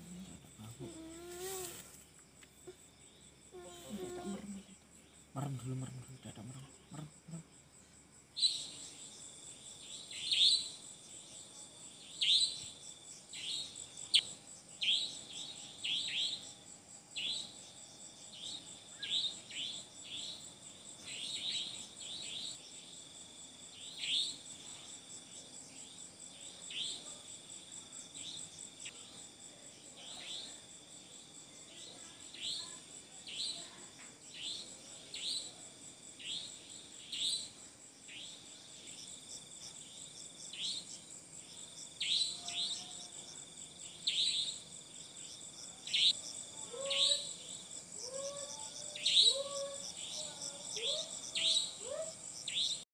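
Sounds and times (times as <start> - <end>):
insects trilling: 0.0 - 52.9
sharp cricket chirps: 0.0 - 52.9.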